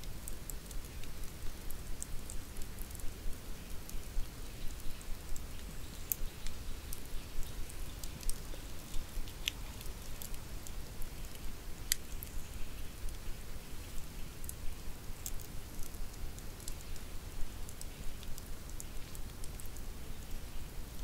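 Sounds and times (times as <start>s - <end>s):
campfire crackling: 0.0s - 21.0s
low steady rumble: 0.0s - 21.0s.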